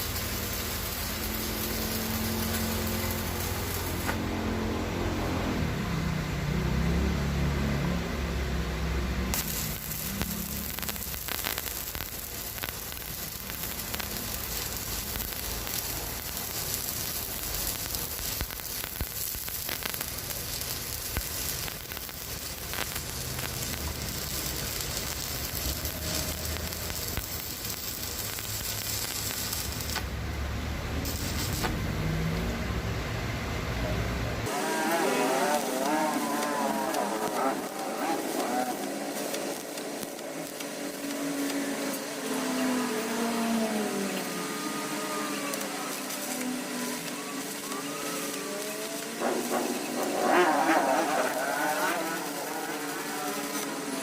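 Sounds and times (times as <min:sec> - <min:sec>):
welding arc crackling and popping: 0:00.0 - 0:05.6, 0:08.3 - 0:32.7, 0:34.4 - 0:54.0.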